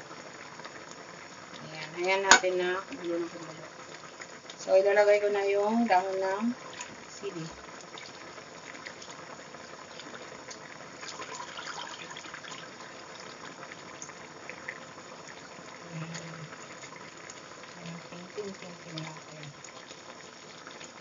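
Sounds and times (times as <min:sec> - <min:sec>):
soup bubbling at a rolling boil: 0:00.0 - 0:21.0.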